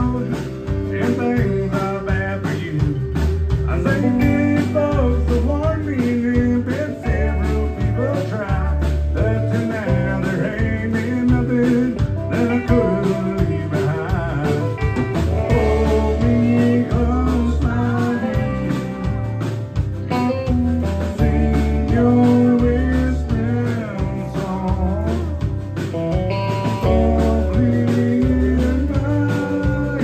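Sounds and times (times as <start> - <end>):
acoustic guitar: 0.0 - 30.0
drums: 0.0 - 30.0
electric guitar: 0.0 - 30.0.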